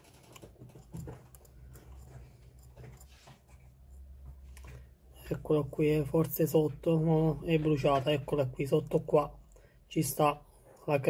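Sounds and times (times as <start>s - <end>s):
tweezers scraping and clicking: 0.0s - 9.6s.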